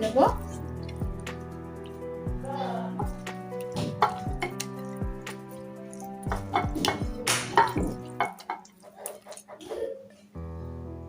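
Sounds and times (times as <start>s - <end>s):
background music: 0.0s - 11.0s
wet squelching of raw chicken: 0.3s - 9.8s.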